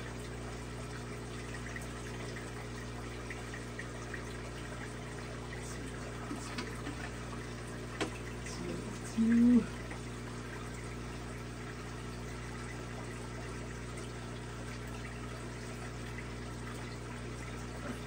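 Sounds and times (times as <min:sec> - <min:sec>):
aquarium pumps humming: 0:00.0 - 0:18.0
trickling water: 0:00.0 - 0:18.0.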